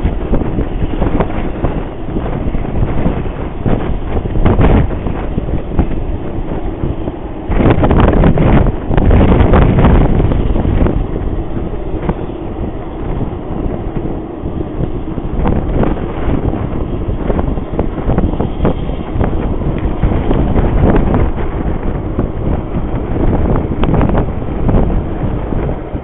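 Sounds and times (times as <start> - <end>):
low rumble: 0.0 - 26.0
wind buffeting microphone: 0.0 - 26.0.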